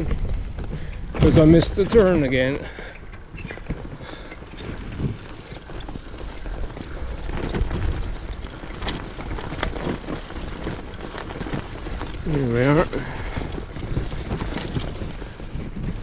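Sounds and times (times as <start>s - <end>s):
bike tyres crunching on gravel: 0.0s - 16.0s
wind rumble on microphone: 0.0s - 16.0s.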